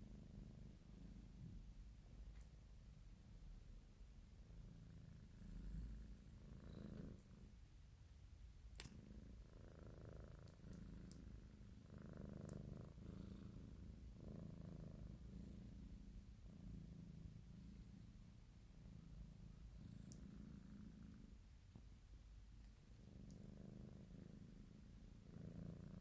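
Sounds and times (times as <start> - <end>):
cat purring faintly: 0.0 - 26.0.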